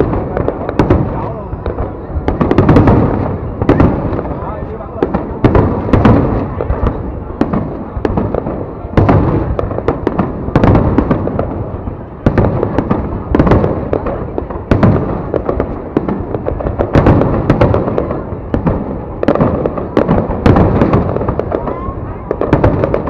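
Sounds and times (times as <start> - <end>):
fireworks booming: 0.0 - 23.0
fireworks crackling: 0.0 - 23.0.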